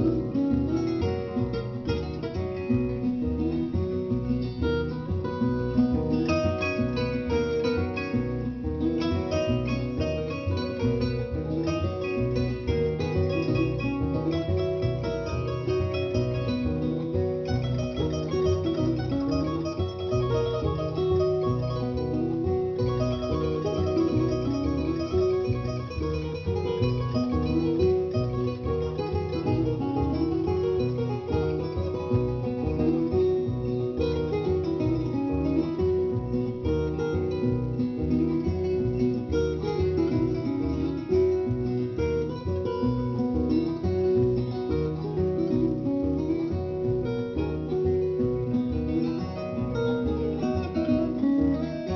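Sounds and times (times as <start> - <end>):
plucked acoustic guitar music: 0.0 - 51.9.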